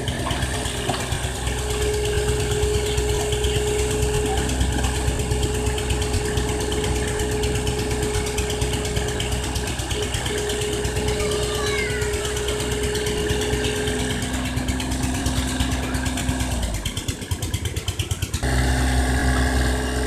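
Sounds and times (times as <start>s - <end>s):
excavator diesel engine rumbling: 0.0s - 20.0s
steady engine whine: 0.0s - 20.0s.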